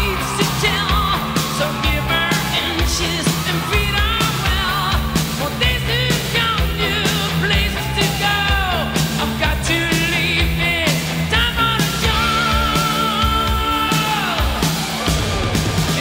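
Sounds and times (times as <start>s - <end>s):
drums: 0.0s - 16.0s
electric guitars: 0.0s - 16.0s
person singing: 0.0s - 16.0s.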